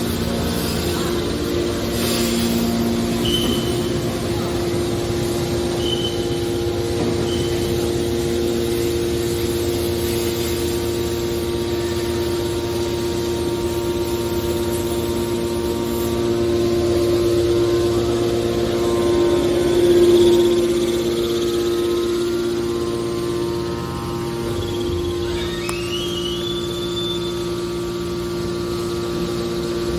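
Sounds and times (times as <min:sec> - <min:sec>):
hydraulic power unit whining: 0:00.0 - 0:29.9.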